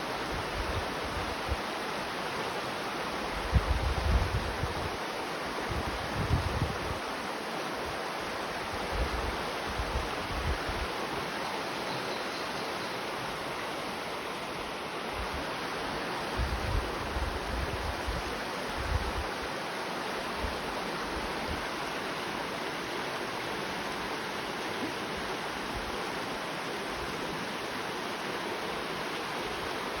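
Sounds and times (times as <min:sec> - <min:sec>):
river water rushing over rocks: 0:00.0 - 0:30.0.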